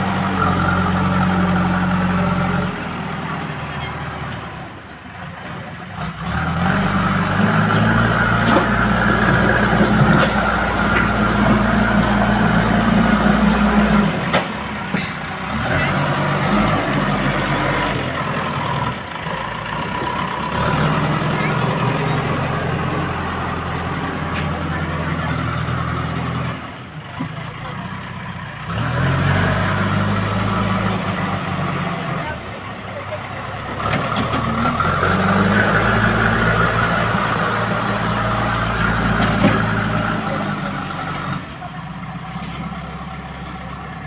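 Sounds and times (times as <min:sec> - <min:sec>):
diesel engine working: 0:00.0 - 0:44.0.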